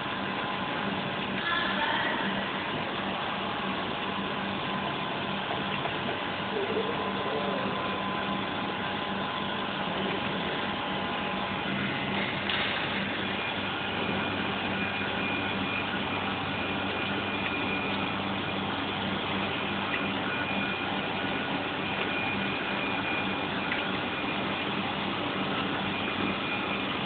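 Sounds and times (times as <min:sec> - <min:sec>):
machinery humming and hissing: 0:00.0 - 0:27.0.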